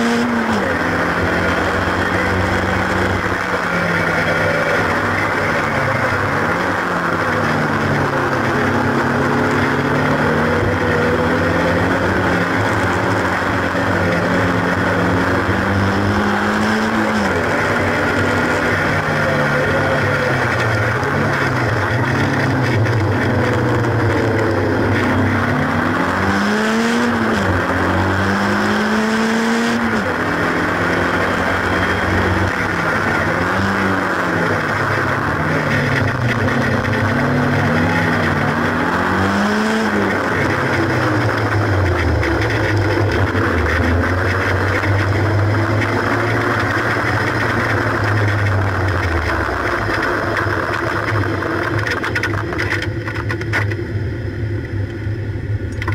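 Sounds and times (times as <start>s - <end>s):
car engine revving: 0.0s - 55.9s
steady rushing noise: 0.0s - 55.9s.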